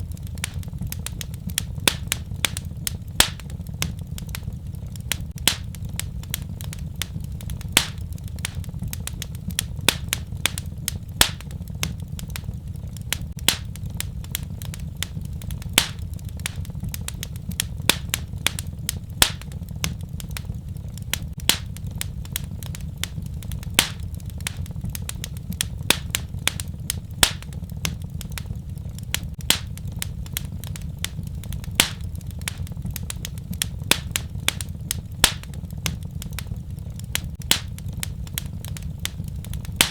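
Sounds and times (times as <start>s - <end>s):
fire crackling: 0.0s - 39.9s
low rumble: 0.0s - 39.9s.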